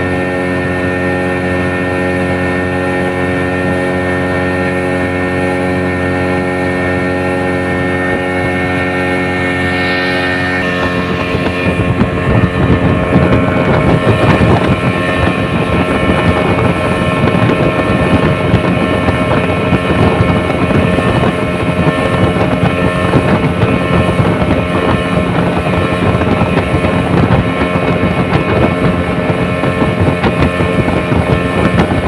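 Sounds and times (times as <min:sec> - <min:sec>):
boat motor running: 0:00.0 - 0:32.0
rushing water: 0:00.0 - 0:32.0
wind noise: 0:00.0 - 0:32.0.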